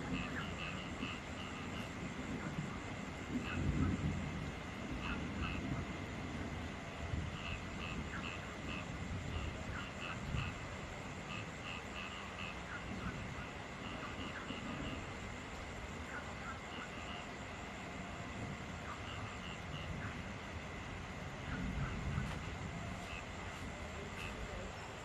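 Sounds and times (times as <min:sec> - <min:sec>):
frogs croaking: 0:00.0 - 0:25.0
steady rain falling: 0:00.0 - 0:25.0.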